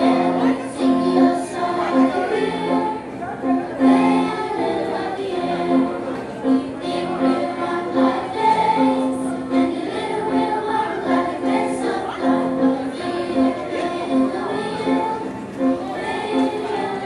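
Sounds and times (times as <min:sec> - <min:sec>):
children's choir singing: 0:00.0 - 0:17.0
electric keyboard: 0:00.0 - 0:17.0.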